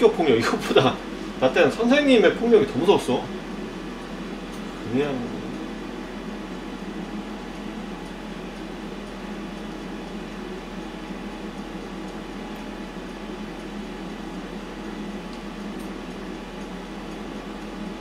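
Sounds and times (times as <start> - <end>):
fan motor whirring: 0.0 - 18.0
low electrical hum: 0.0 - 18.0.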